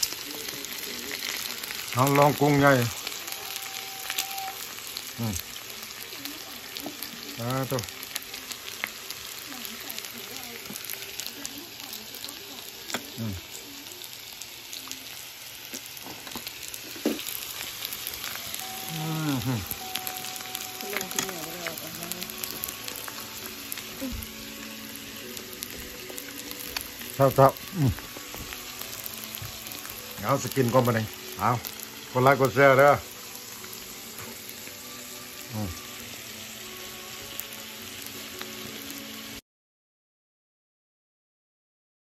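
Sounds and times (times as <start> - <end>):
food sizzling on a grill: 0.0 - 39.4.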